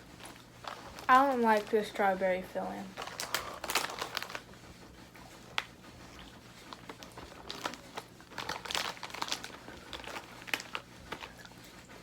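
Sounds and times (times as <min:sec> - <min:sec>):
plastic wrapper crinkling: 0:00.0 - 0:02.2, 0:02.8 - 0:04.5, 0:05.5 - 0:11.6.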